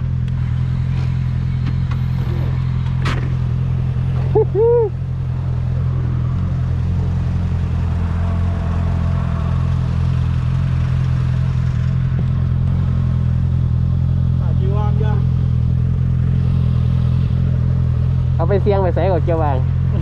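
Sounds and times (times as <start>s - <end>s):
motorcycle engine running: 0.0s - 20.0s
road noise: 0.0s - 20.0s.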